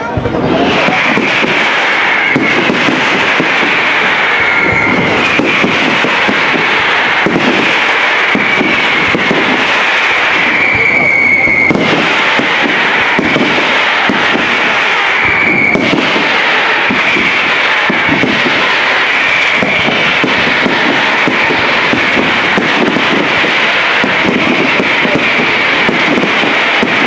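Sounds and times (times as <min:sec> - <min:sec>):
fireworks crackling and popping: 0:00.0 - 0:27.0
shrill fireworks whistling: 0:00.0 - 0:27.0.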